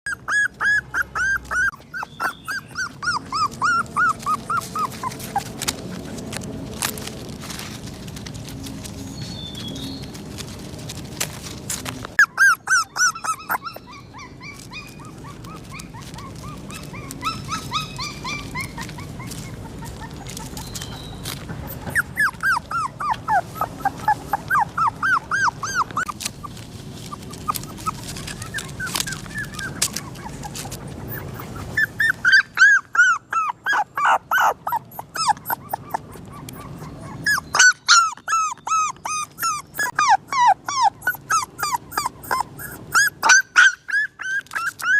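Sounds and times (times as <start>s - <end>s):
dog whining and yelping: 0.0s - 6.4s, 12.2s - 44.9s.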